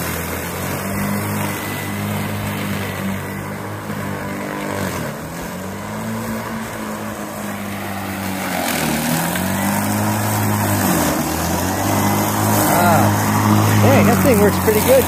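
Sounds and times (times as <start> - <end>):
electric lawn mower cutting grass: 0.0 - 15.0.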